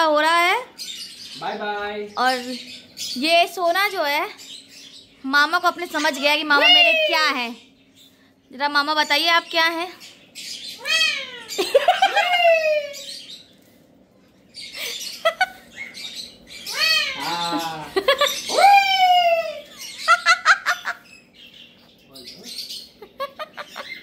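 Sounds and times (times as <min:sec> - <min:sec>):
parakeets squawking: 0:00.0 - 0:24.0.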